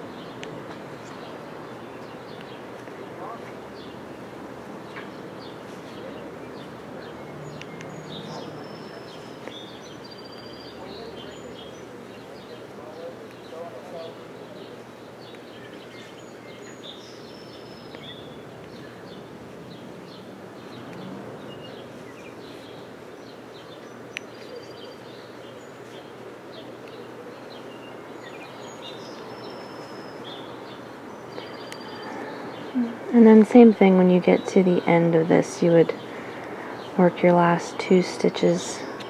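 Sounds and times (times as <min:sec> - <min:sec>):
background hiss: 0:00.0 - 0:39.0.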